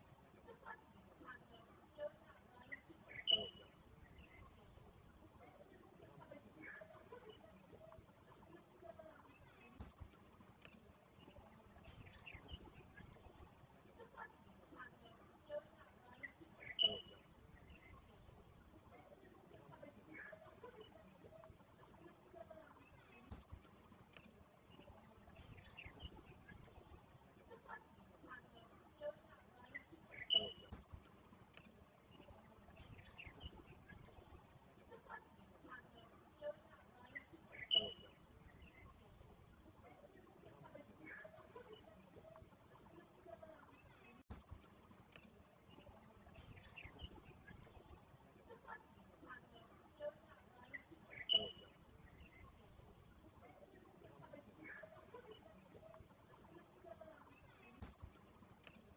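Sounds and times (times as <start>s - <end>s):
faint high-pitched whine: 0.0s - 58.9s
faint clicks: 0.4s - 58.9s.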